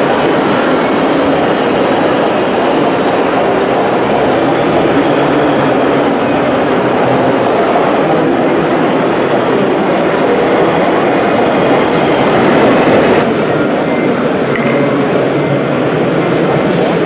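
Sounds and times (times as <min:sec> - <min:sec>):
model construction vehicles running: 0:00.0 - 0:17.0.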